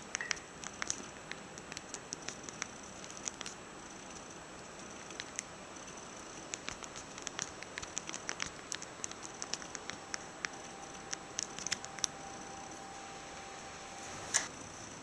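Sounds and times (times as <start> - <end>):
light clicks and crackles: 0.0 - 14.5
faint steady hiss: 0.0 - 15.0.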